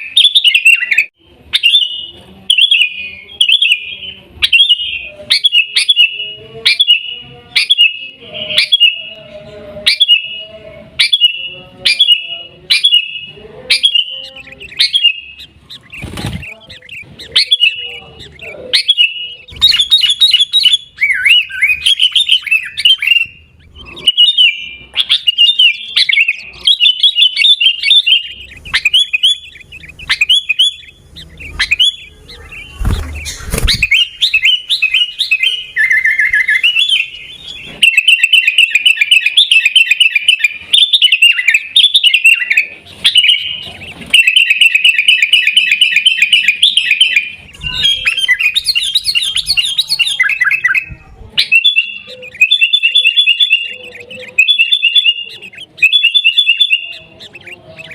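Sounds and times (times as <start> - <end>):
bird chirping in phrases: 0.0 - 57.9.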